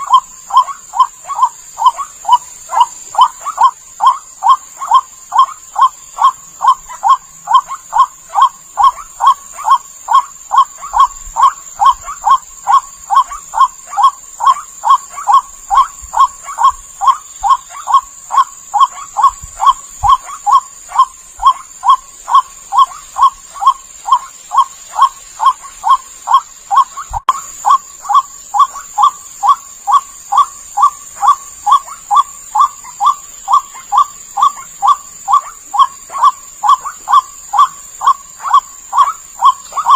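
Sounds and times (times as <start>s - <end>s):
bird croaking calls: 0.0s - 39.9s.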